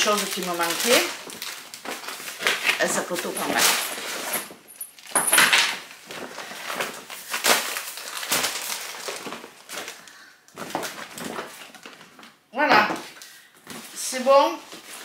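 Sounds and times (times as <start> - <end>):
shopping bags rustling: 0.0 - 12.4, 13.6 - 15.0.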